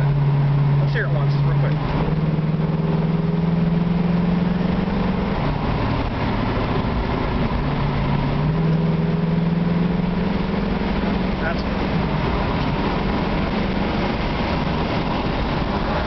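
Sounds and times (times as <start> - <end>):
car engine running: 0.0 - 16.0
road noise: 0.0 - 16.0.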